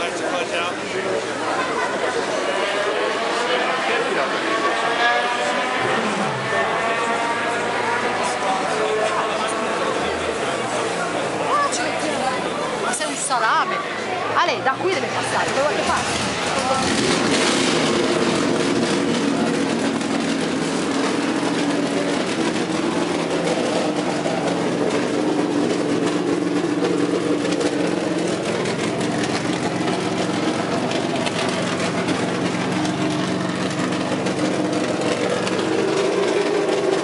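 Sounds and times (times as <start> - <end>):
car engine idling: 0.0 - 13.0, 13.8 - 37.0.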